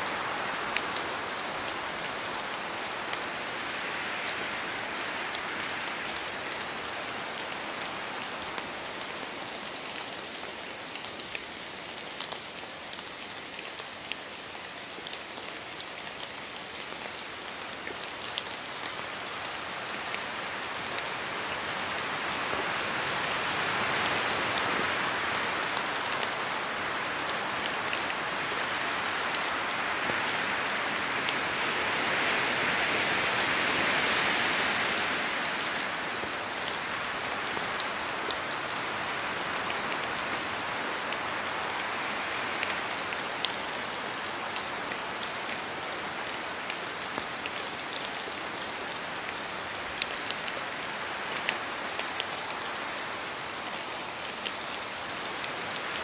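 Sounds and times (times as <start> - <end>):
rain falling in forest: 0.0 - 56.0
wind through trees: 0.0 - 56.0.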